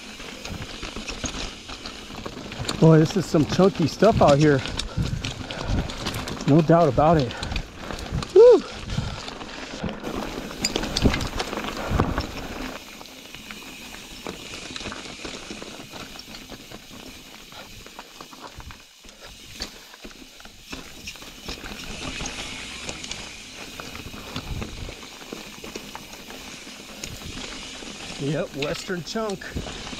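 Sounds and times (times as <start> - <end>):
bike rattling: 0.0 - 29.9
bike tyres crunching over stones: 0.0 - 29.9.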